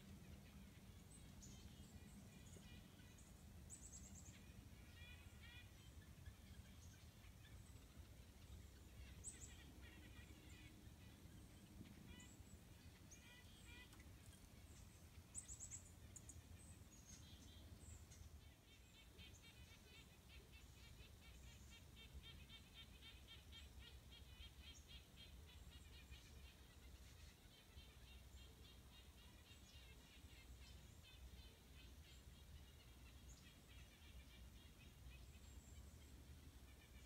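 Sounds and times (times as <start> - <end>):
wild birds chirping: 0.0 - 37.0.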